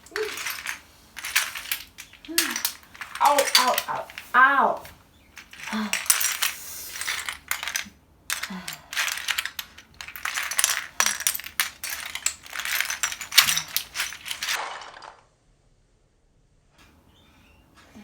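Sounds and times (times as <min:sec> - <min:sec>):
bare feet shuffling through toys: 0:00.0 - 0:15.1
plastic toys clicking and clattering: 0:00.0 - 0:15.2.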